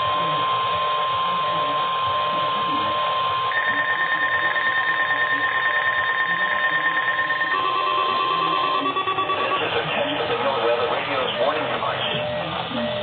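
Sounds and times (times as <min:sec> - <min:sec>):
steady alarm tone: 0:00.0 - 0:13.0.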